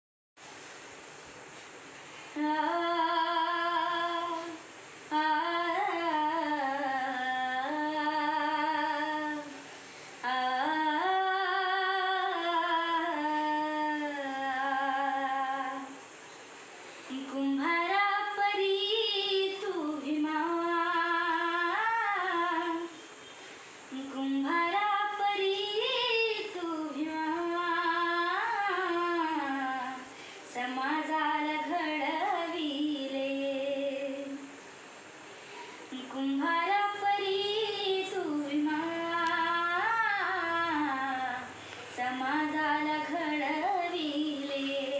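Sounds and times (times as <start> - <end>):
girl singing unaccompanied: 2.3 - 16.2, 17.1 - 23.0, 23.9 - 34.6, 35.8 - 44.9.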